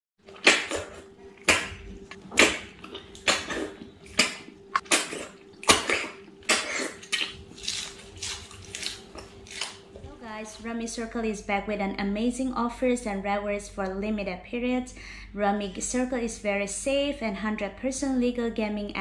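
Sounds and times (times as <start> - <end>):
faint steady hum: 0.2 - 19.0.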